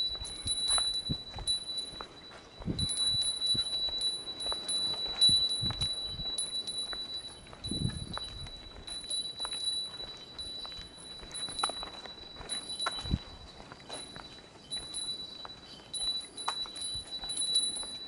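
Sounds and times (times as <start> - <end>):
small bell ringing: 0.0 - 18.0.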